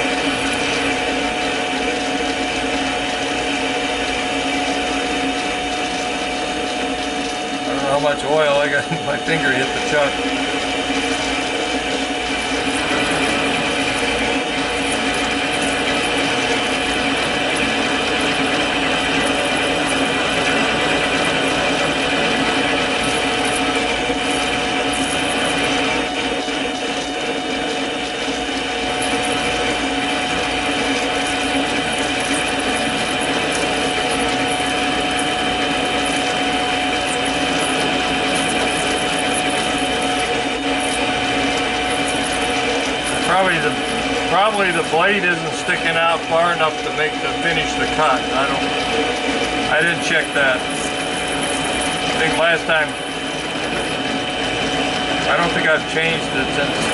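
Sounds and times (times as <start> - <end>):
lathe motor whine: 0.0 - 56.9.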